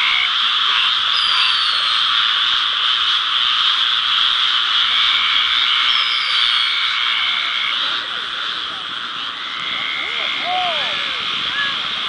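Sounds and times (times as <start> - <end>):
steady frog trill: 0.0 - 10.6
chorus of frogs calling: 0.0 - 12.0.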